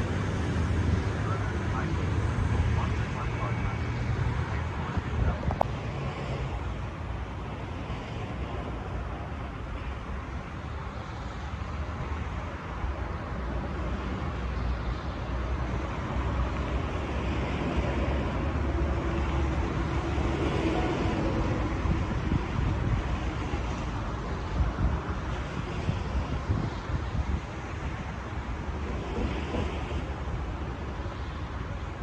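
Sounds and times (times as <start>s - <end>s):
diesel railcar engine rumble: 0.0s - 32.0s.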